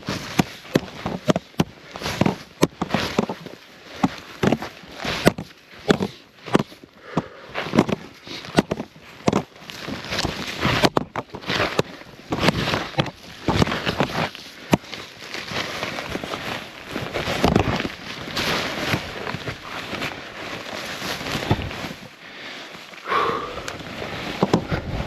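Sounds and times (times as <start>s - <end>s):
snowshoes crunching through snow: 0.0s - 25.0s.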